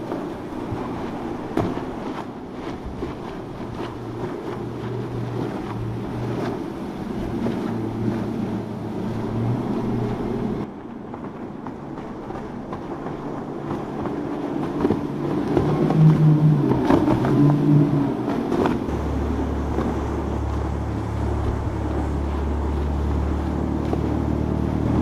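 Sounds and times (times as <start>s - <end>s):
outboard motors running: 0.0s - 25.0s
wind on microphone: 0.0s - 25.0s.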